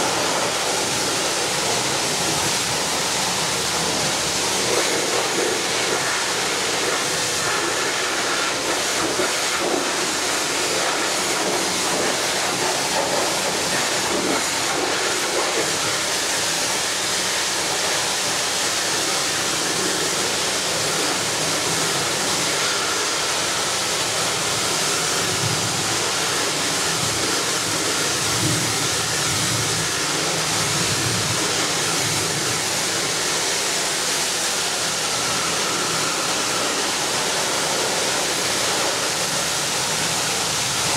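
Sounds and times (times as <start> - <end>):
pressure washer spray hissing: 0.0 - 40.9.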